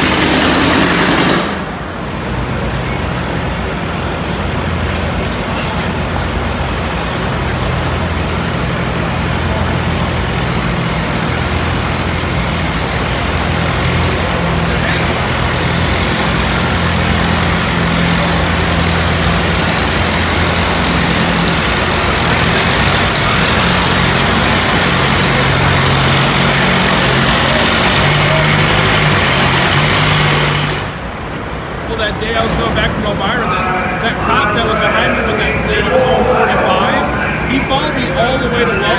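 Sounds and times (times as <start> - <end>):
tractor engine under heavy load: 0.0 - 38.9.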